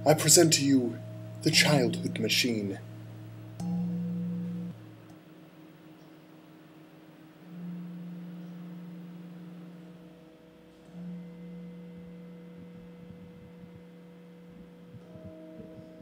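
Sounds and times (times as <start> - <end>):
faint higher tones: 0.0 - 16.0
low humming tone: 0.0 - 16.0.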